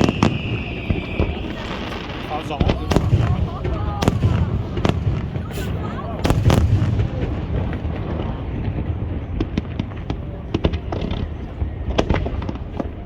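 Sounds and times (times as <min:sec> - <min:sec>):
fireworks crackling pops: 0:00.0 - 0:13.0
fireworks rumbling bursts: 0:00.0 - 0:13.0.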